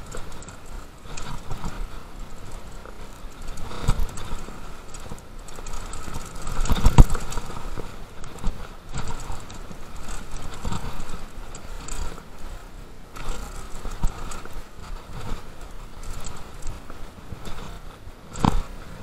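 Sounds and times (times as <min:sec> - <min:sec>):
bike frame and chain rattling: 0:00.0 - 0:19.0.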